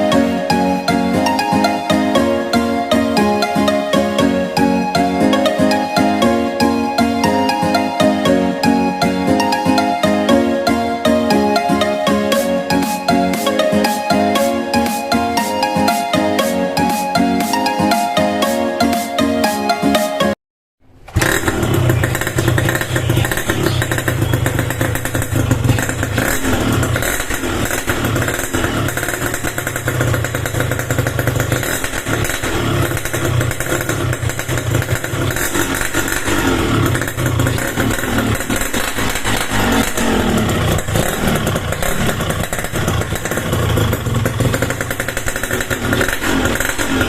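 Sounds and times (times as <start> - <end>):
two-stroke engine revving: 0.0 - 19.1, 21.0 - 47.0.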